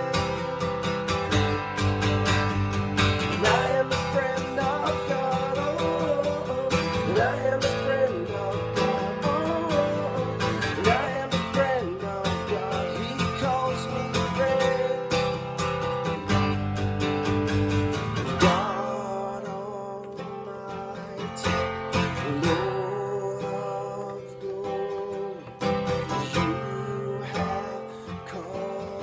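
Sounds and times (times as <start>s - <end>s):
person singing: 0.0s - 1.8s, 3.1s - 15.4s, 18.2s - 29.0s
acoustic guitar strumming: 0.0s - 29.0s.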